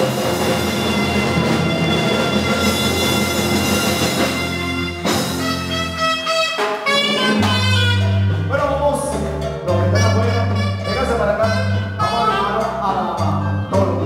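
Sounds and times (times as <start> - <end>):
alto saxophone melody: 0.0 - 8.6, 9.7 - 13.0
electric bass: 0.0 - 14.0
electric keyboard: 0.0 - 14.0.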